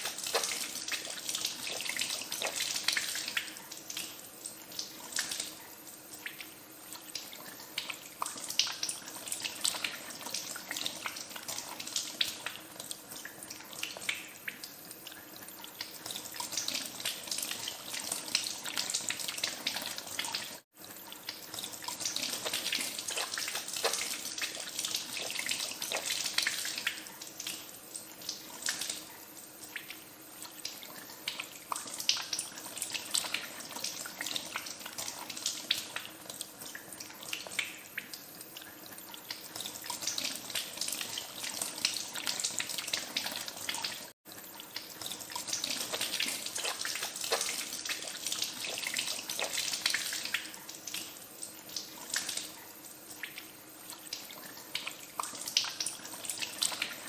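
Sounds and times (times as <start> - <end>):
splashes and drips: 0.0 - 57.0.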